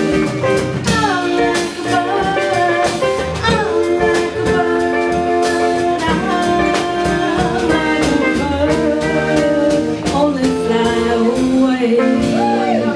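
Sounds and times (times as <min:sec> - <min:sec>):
drum kit beat: 0:00.0 - 0:12.9
live band playing pop: 0:00.0 - 0:12.9
person singing: 0:00.0 - 0:12.9.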